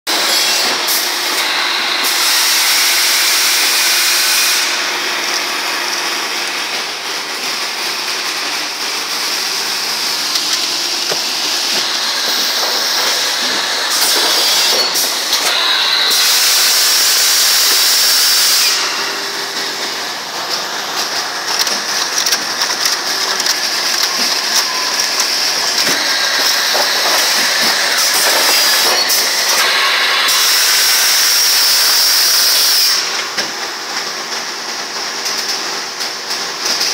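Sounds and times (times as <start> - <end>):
loud air hissing: 0.1 - 21.4, 23.1 - 33.2
machine running: 0.1 - 35.3.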